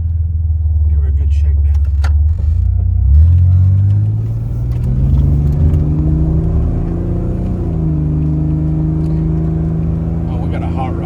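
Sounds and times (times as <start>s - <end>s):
pickup truck engine accelerating: 1.7s - 11.0s.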